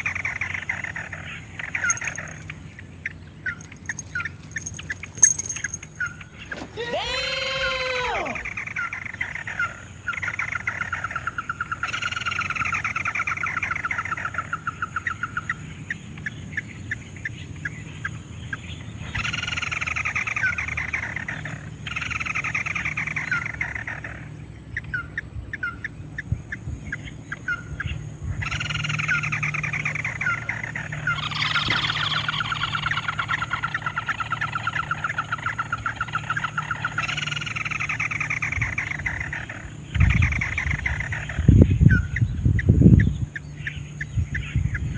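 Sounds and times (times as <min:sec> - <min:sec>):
bird trill and ticking calls: 0:00.0 - 0:44.9.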